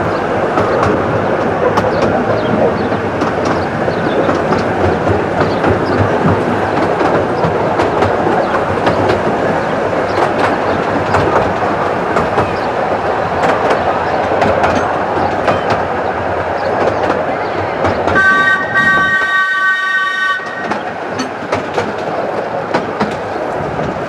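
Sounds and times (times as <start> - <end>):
train wheels rumbling on track: 0.0 - 24.0
wheels clacking over rail joints: 0.0 - 24.0.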